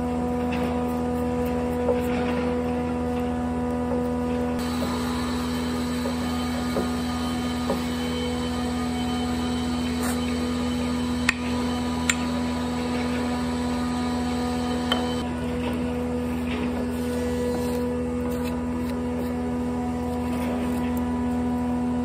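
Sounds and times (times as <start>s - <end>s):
electric motor hum: 0.0s - 22.0s.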